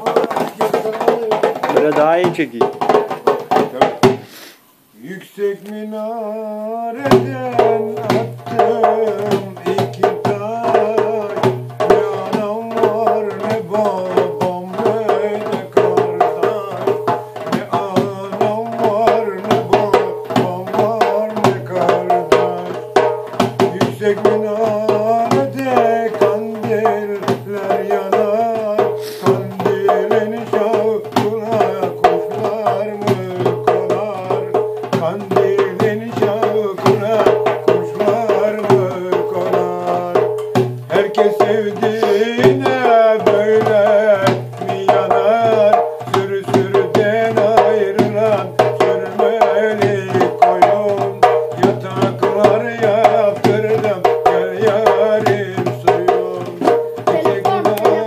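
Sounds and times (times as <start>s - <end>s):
goblet drum rhythm: 0.0s - 4.4s, 5.8s - 58.0s.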